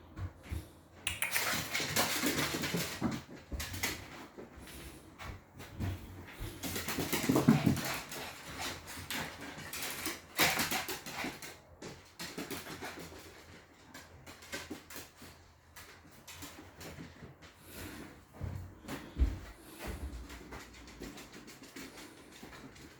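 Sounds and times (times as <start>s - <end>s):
dogs scuffling: 0.0s - 22.9s.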